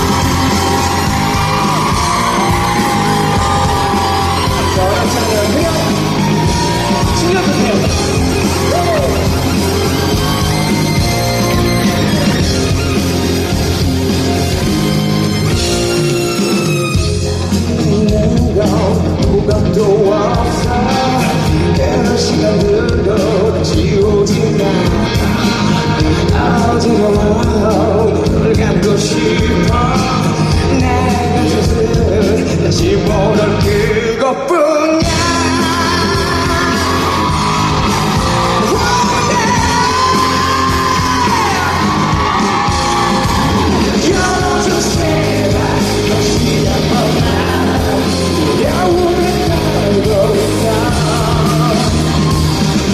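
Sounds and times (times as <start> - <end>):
live rock band music: 0.0 - 52.9.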